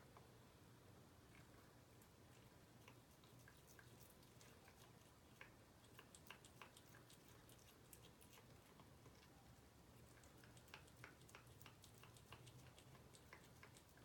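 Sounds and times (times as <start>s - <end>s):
cat chewing raw meat: 1.2s - 14.0s.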